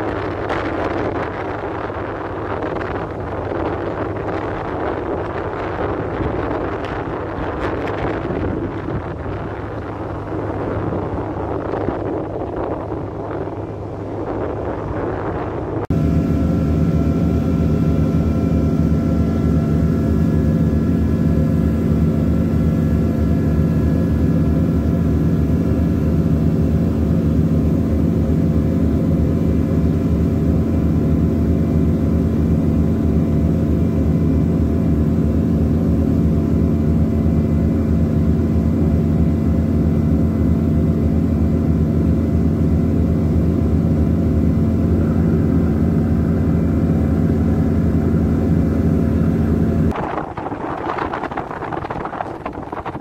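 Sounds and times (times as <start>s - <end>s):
diesel engine drone: 0.0s - 53.0s
steady hum: 0.0s - 53.0s.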